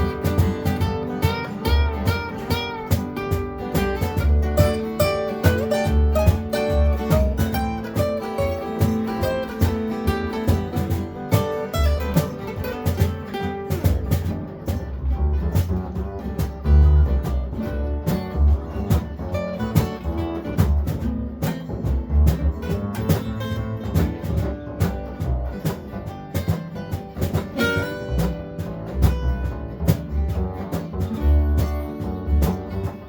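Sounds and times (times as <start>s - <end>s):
acoustic guitar: 0.0s - 33.0s
bass line: 0.0s - 33.0s
steady beat: 0.0s - 33.0s.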